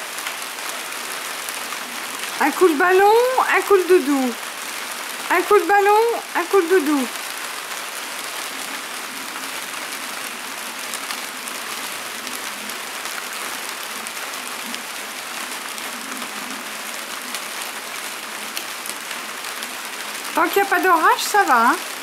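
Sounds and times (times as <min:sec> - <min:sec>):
rain drops ticking: 0:00.0 - 0:22.0
steady rain: 0:00.0 - 0:22.0.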